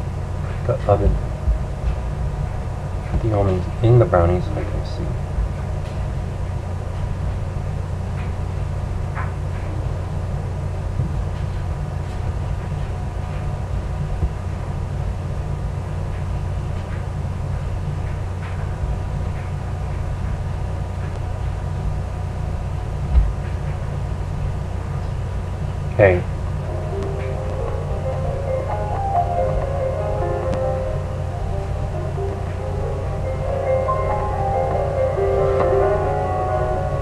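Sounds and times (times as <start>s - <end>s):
low background hum: 0.0s - 37.0s.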